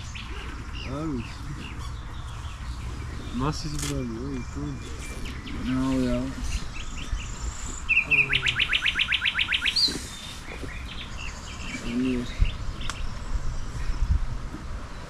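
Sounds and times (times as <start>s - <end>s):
steady low rumble: 0.0s - 9.0s, 10.0s - 15.0s
songbird singing a fast trill: 0.0s - 14.2s
soft bird calls: 0.0s - 15.0s.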